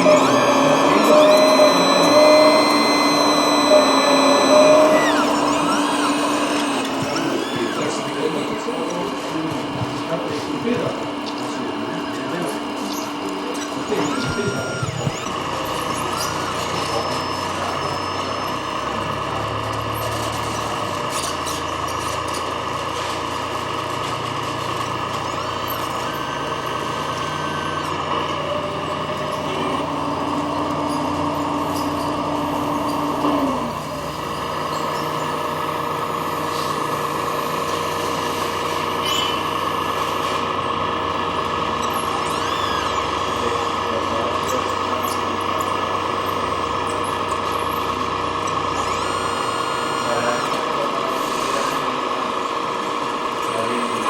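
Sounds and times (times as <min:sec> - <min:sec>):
model machines whining and humming: 0:00.0 - 0:54.0.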